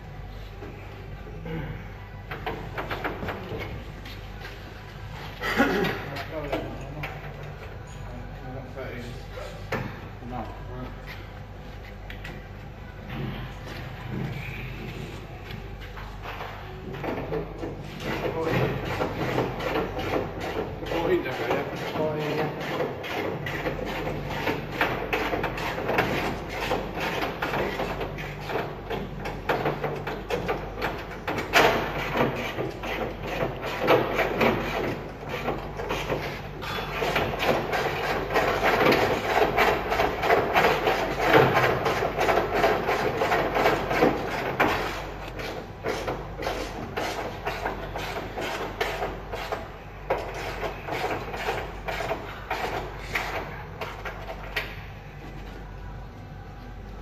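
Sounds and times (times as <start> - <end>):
low workshop hum: 0.0 - 57.0.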